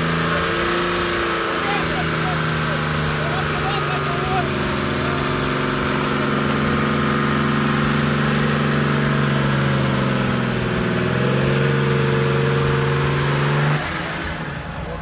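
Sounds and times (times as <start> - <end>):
engine running hard under load: 0.0 - 15.0.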